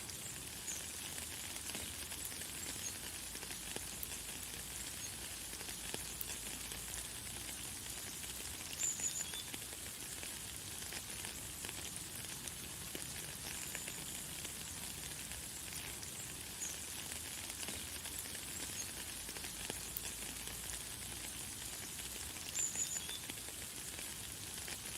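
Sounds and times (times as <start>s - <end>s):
light rain hissing: 0.0s - 24.9s.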